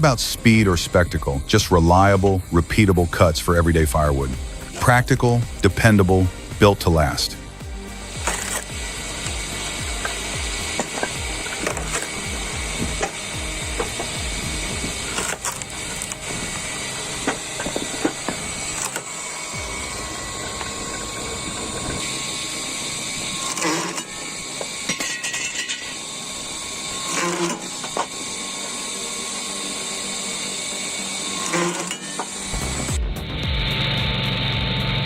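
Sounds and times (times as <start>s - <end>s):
firewood splitting machine running: 0.0s - 35.0s.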